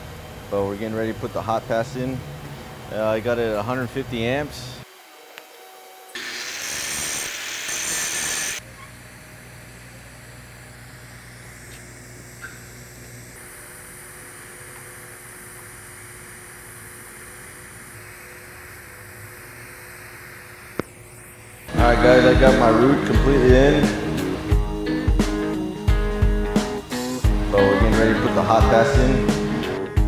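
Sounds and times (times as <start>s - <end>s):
welding arc humming: 0.0s - 29.9s
angle grinder grinding metal: 5.2s - 29.5s.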